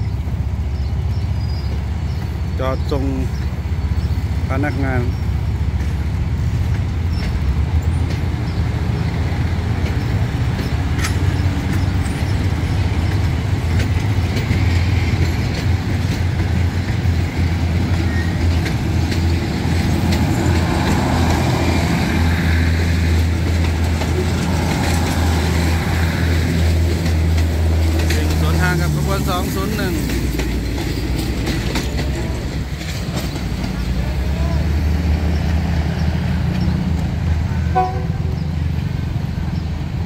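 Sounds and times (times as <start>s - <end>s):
diesel engines humming: 0.0s - 40.0s
wheels clicking over rail joints: 0.3s - 38.0s.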